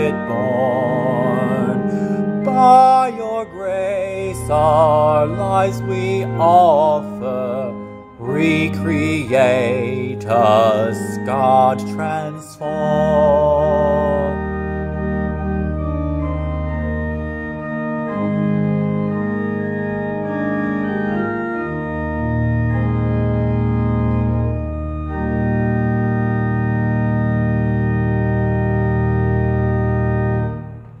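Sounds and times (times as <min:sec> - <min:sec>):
organ playing hymn chords: 0:00.0 - 0:31.0.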